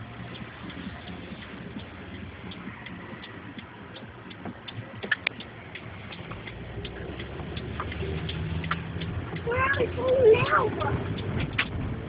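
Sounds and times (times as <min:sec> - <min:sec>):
car indicator ticking: 0:00.0 - 0:12.0.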